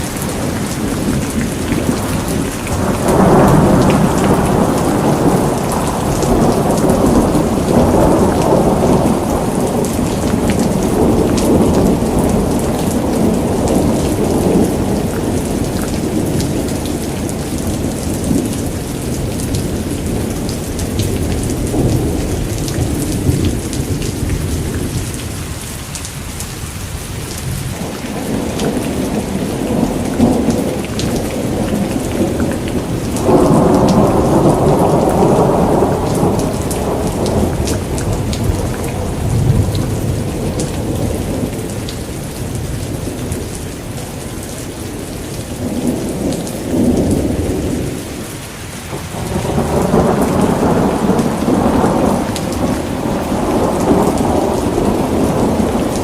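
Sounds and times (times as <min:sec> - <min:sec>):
rolling thunder: 0:00.0 - 0:25.6, 0:27.4 - 0:44.2, 0:44.9 - 0:48.3, 0:48.9 - 0:56.0
steady rain pattering: 0:00.0 - 0:56.0.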